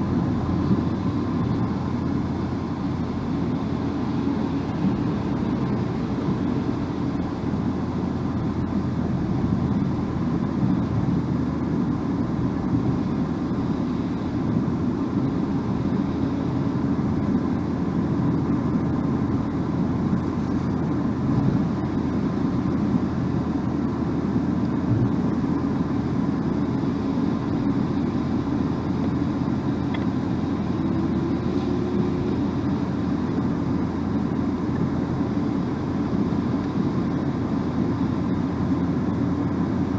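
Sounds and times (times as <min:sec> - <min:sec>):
car road and tyre noise: 0:00.0 - 0:39.9.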